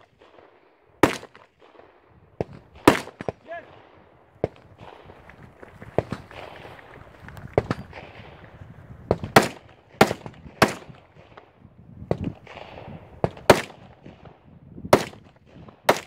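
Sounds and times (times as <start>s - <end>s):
rifle shots: 0.0s - 7.0s, 7.6s - 16.0s.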